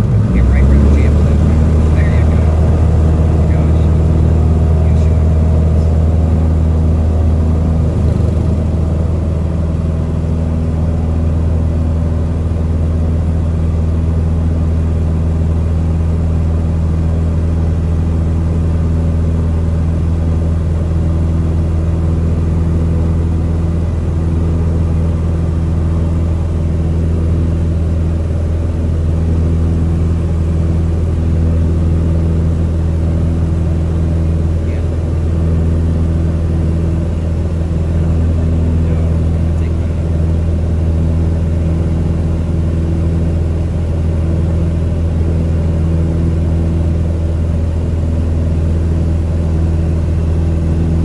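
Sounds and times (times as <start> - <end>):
light aircraft engine droning: 0.0 - 51.0.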